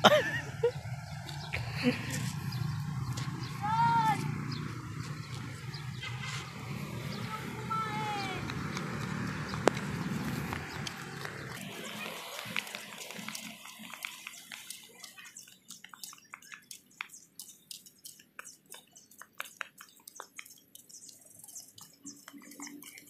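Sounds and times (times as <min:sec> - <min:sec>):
flip-flop footsteps on asphalt: 0:00.1 - 0:23.0.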